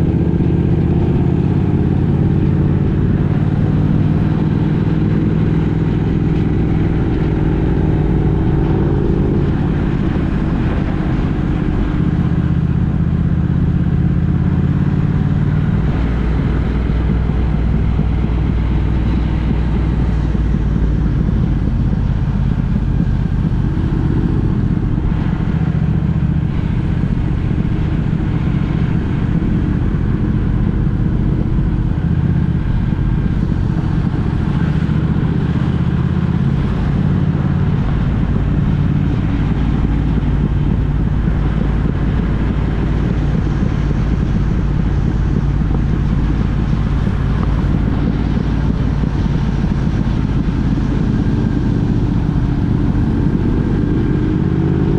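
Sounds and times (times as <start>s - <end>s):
vehicle engine and road rumble: 0.0s - 54.9s.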